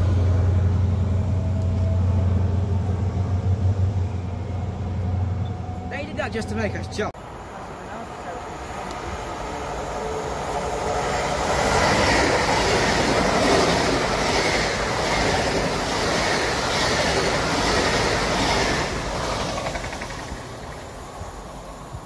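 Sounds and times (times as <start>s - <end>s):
train passing wheels rushing on rail: 0.0s - 22.0s.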